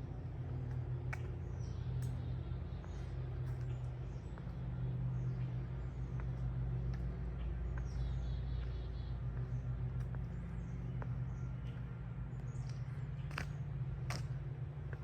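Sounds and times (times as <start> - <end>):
low hum: 0.0 - 15.0
small birds chirping: 0.1 - 15.0.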